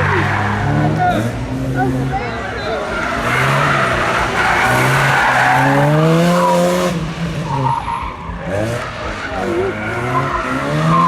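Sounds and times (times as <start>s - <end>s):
rally car engine revving: 0.0s - 11.0s
tyres hissing on road: 0.0s - 11.0s.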